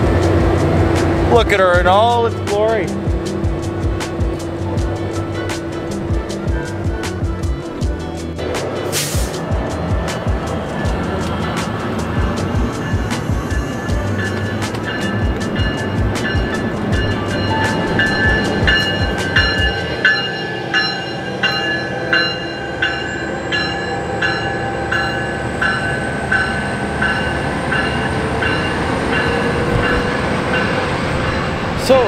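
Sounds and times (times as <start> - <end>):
locomotive bell ringing: 0.0 - 6.9, 10.2 - 32.0
train rumbling: 0.0 - 32.0.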